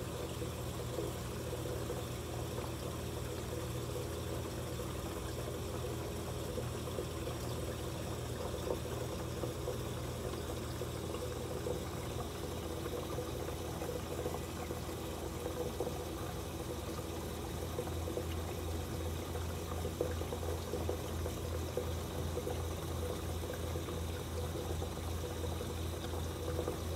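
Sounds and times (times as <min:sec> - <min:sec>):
low pump hum: 0:00.0 - 0:26.9
trickling pouring water: 0:00.0 - 0:26.9.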